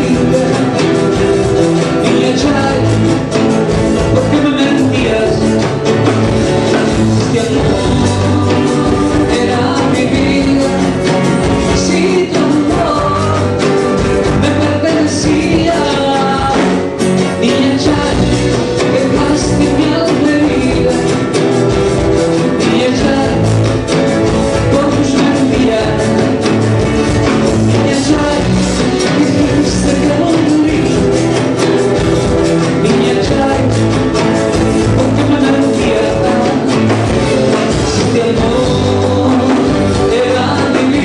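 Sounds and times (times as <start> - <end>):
bass: 0.0 - 41.0
man singing into a microphone: 0.0 - 41.0
nylon-string acoustic guitar: 0.0 - 41.0
percussion on a steady beat: 0.0 - 41.0.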